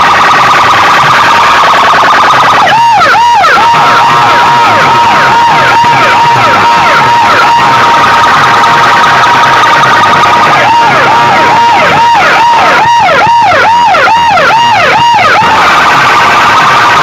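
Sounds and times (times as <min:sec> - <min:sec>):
electronic siren: 0:00.0 - 0:17.0.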